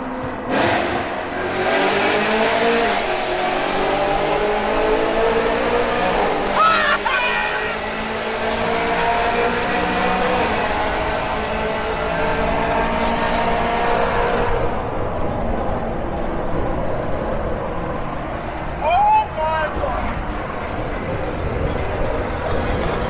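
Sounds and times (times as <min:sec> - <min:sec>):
car engine accelerating: 0:00.0 - 0:18.6.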